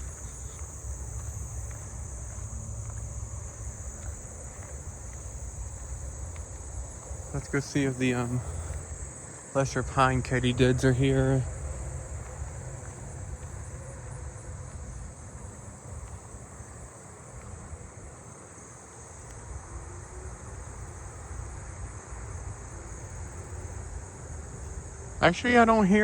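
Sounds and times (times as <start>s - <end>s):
insects chirping chorus: 0.0s - 26.0s.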